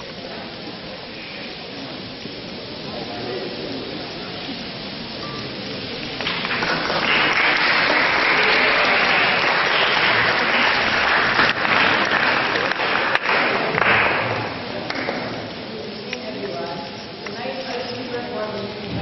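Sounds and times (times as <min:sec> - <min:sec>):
audience applause: 0:00.0 - 0:16.1.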